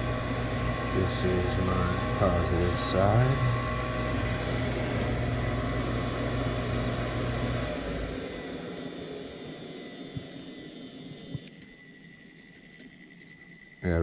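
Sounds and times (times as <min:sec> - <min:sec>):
draft inducer motor humming: 0:00.0 - 0:14.0.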